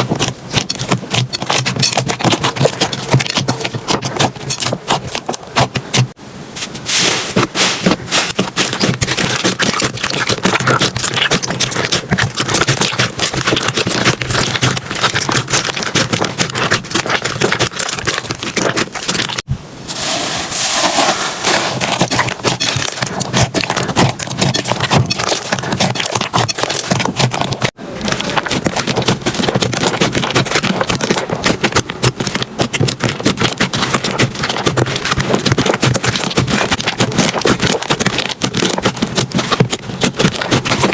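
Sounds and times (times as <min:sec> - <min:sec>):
slime squishing and popping: 0:00.0 - 0:06.1, 0:07.4 - 0:19.5, 0:21.4 - 0:40.9.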